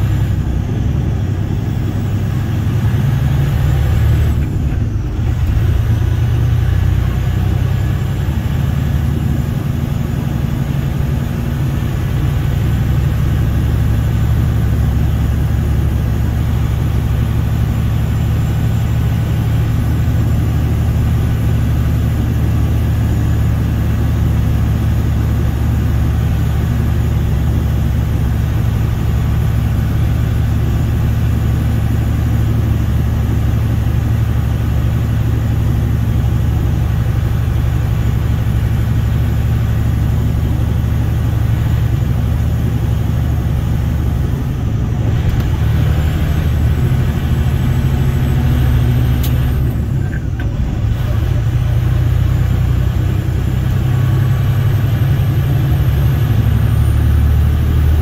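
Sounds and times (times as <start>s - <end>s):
vehicle engine and tyres drone: 0.0s - 58.0s.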